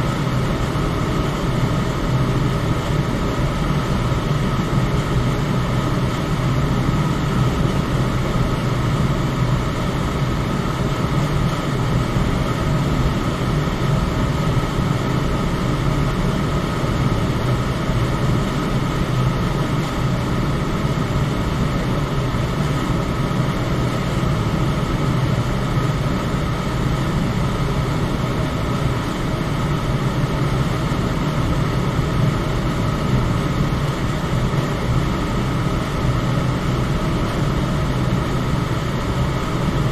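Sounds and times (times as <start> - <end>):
electric fan whooshing hum: 0.0 - 39.9.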